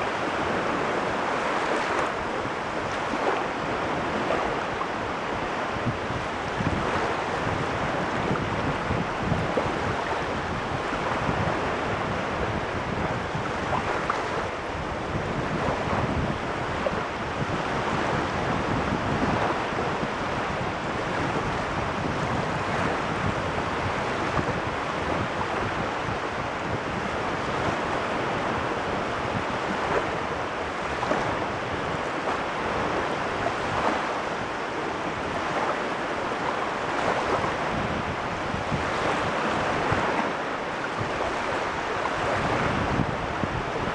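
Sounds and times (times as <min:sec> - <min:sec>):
waves washing on shore: 0:00.0 - 0:43.9
wind rumbling on microphone: 0:00.0 - 0:43.9.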